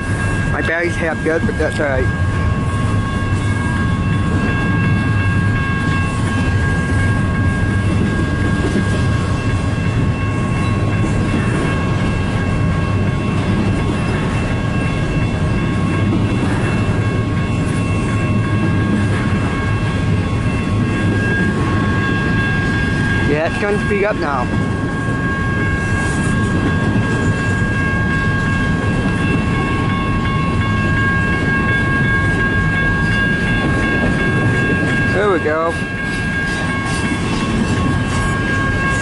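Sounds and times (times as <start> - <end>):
steady high tones: 0.0 - 39.0
train wheels rumbling on rail: 0.0 - 39.0.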